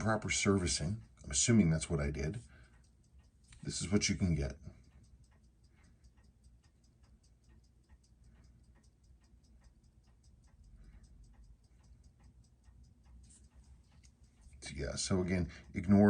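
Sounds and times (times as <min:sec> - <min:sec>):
fast watch ticking: 0:00.0 - 0:16.0.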